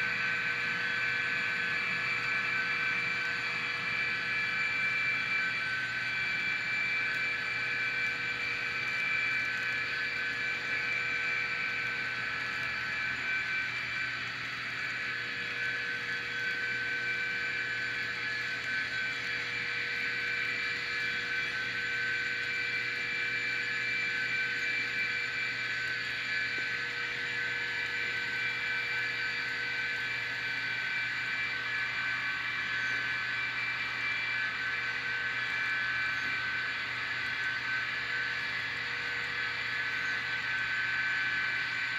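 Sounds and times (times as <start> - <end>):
model train motor whine: 0.0 - 41.9.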